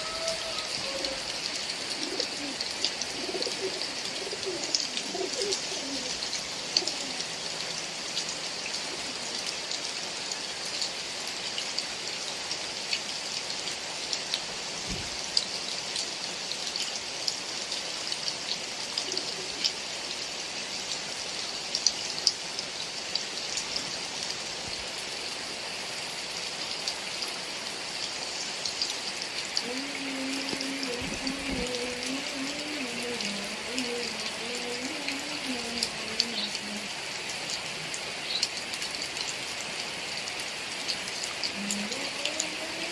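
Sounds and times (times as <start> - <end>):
heavy rain falling: 0.0 - 42.9
raindrops ticking on surfaces: 0.0 - 42.9.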